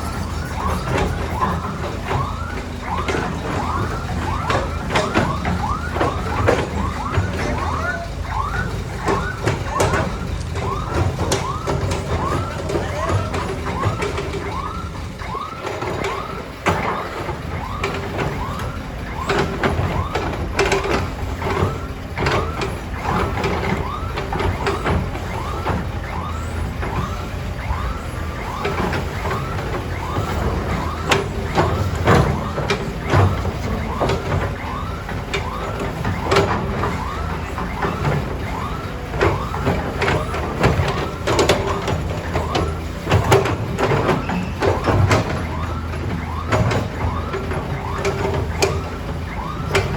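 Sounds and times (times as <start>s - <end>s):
heavy vehicle engine rumbling: 0.0s - 49.9s
scattered knocks: 0.0s - 49.9s.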